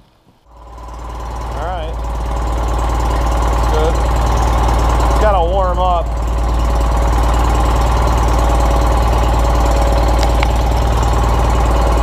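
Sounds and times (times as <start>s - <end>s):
garden tractor engine running: 0.4s - 12.0s.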